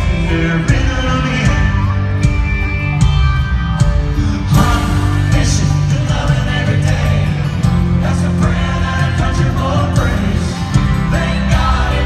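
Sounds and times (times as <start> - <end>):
man singing: 0.0 - 2.2, 4.2 - 12.0
acoustic guitar: 0.0 - 12.0
live country band: 0.0 - 12.0.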